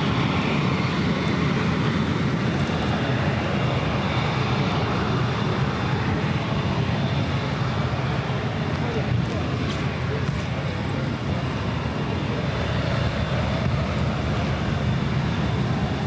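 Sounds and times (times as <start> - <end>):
jet engine rushing: 0.0 - 16.0.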